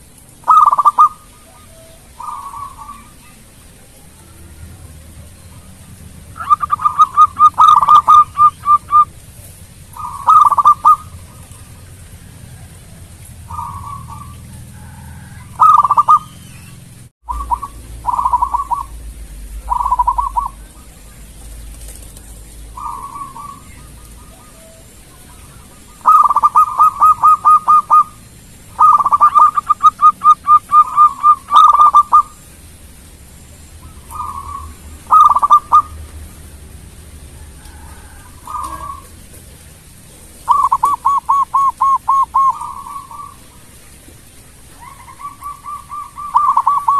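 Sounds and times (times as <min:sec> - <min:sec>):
dove cooing: 0:00.4 - 0:16.6, 0:17.3 - 0:32.4, 0:33.8 - 0:36.0, 0:37.4 - 0:43.9, 0:44.6 - 0:46.9.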